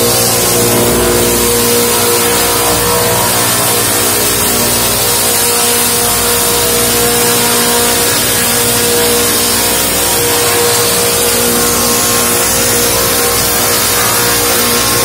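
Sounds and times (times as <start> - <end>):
sawmill machine whine: 0.0 - 15.0.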